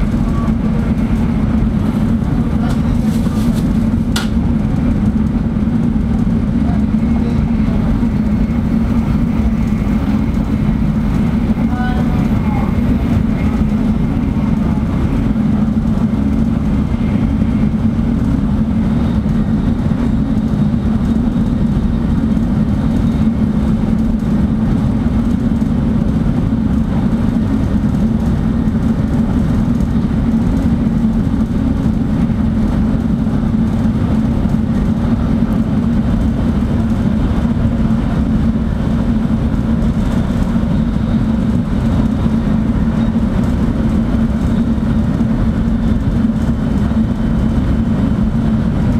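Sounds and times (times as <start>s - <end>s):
train cabin rumble and hum: 0.0s - 48.9s.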